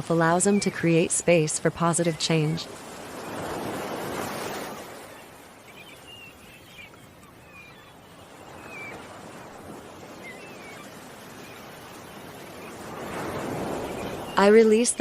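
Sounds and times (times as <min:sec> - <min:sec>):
ocean waves washing on shore: 0:00.0 - 0:15.0
small birds chirping: 0:00.1 - 0:15.0.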